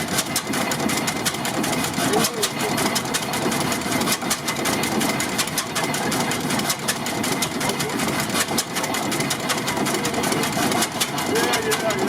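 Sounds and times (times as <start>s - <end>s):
tractor engine clattering: 0.0s - 12.0s.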